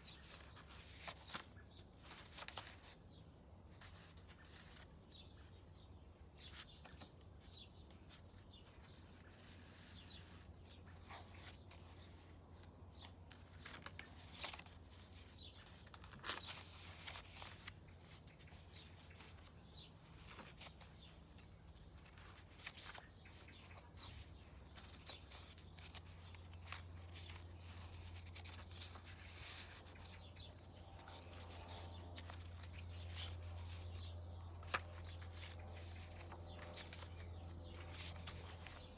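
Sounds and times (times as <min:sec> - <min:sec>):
paper rustling: 0:00.0 - 0:03.0, 0:03.7 - 0:05.0, 0:06.4 - 0:38.9.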